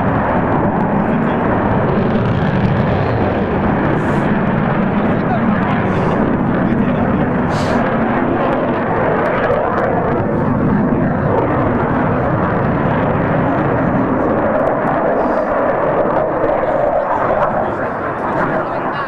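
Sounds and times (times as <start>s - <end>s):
fighter jet roar: 0.0s - 19.0s.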